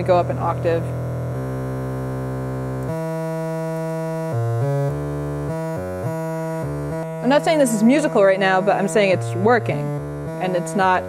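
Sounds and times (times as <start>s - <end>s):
synthesizer melody of held notes: 0.0s - 11.0s.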